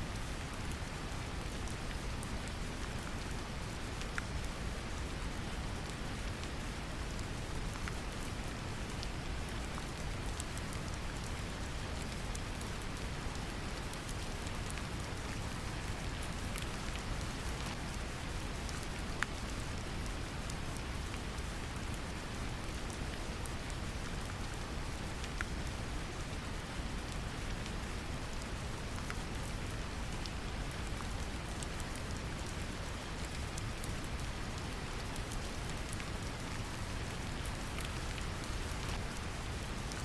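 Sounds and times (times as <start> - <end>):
brown noise hiss: 0.0 - 40.0
raindrops pattering: 0.2 - 40.0.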